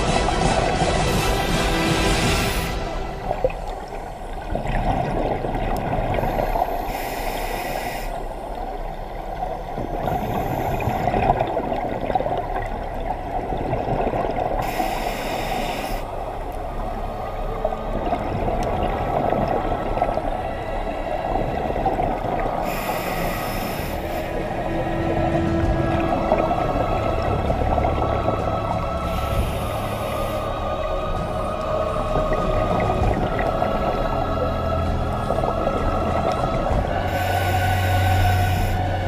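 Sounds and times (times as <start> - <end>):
steady underwater rumble: 0.0 - 39.0.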